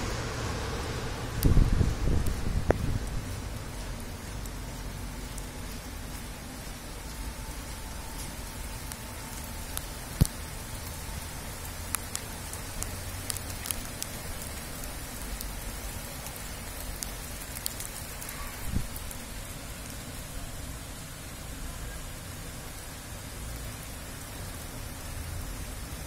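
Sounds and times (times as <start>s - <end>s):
heavy rain falling: 0.0s - 26.0s
raindrops ticking: 0.1s - 26.0s.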